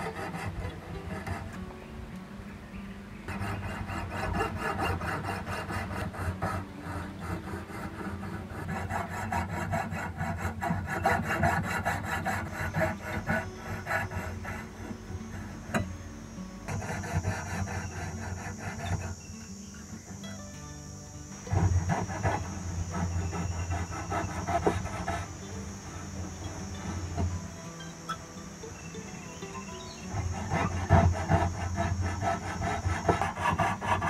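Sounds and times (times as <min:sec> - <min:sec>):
saw cutting steel: 0:00.0 - 0:01.7, 0:03.3 - 0:20.2, 0:20.9 - 0:34.0.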